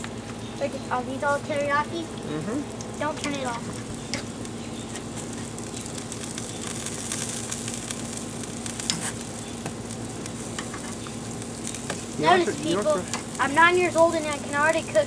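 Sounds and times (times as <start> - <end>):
chicken wings sizzling on grill: 0.0 - 15.0.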